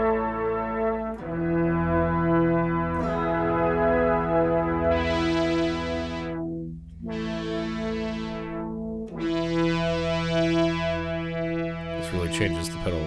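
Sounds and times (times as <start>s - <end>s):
sustained synth pad chord: 0.0s - 13.0s.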